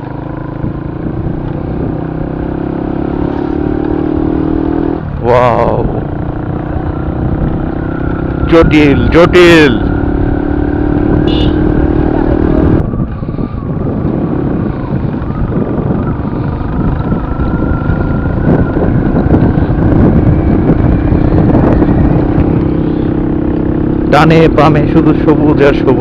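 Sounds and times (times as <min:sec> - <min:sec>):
motorcycle engine running: 0:00.0 - 0:26.0
wind rumbling on microphone: 0:00.0 - 0:26.0.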